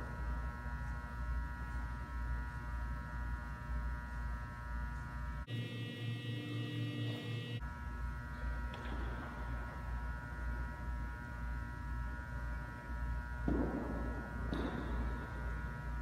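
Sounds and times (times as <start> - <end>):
droning hum of sustained tones: 0.0 - 16.0.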